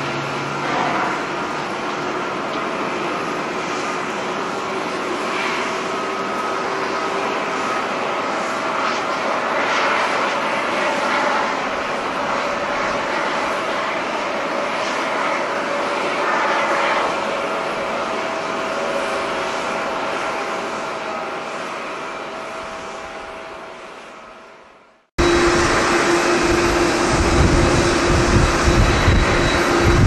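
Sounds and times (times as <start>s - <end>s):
jet engines at takeoff thrust: 0.0s - 30.0s.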